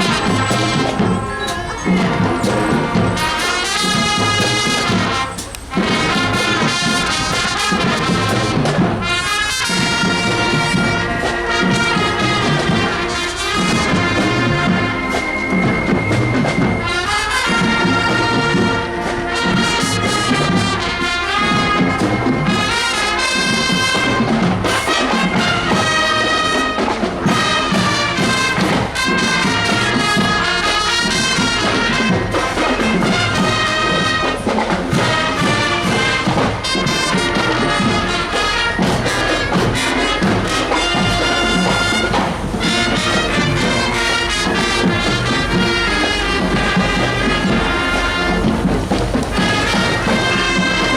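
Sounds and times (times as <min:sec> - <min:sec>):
marching band playing: 0:00.0 - 0:50.9
trumpets and trombones melody: 0:00.0 - 0:50.9.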